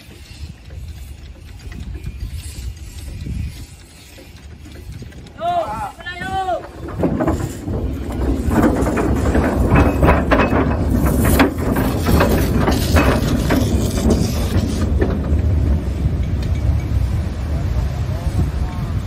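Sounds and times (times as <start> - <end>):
cradle knocking on rails: 0.0 - 17.0
boat sliding down slipway rumble: 0.0 - 19.0.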